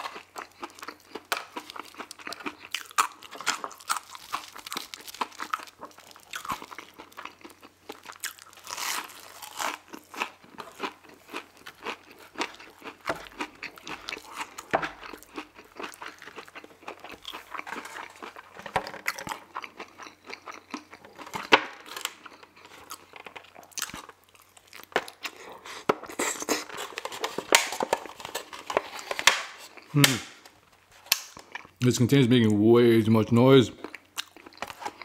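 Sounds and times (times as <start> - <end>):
person chewing food: 0.0 - 31.8, 33.8 - 35.0.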